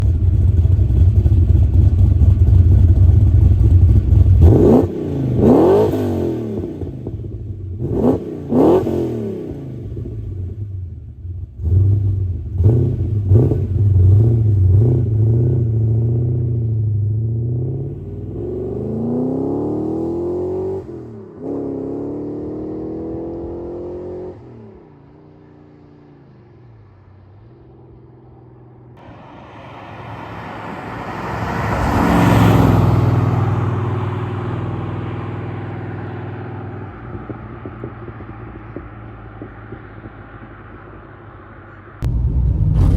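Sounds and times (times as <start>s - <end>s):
car engine rumbling and revving: 0.0s - 42.9s.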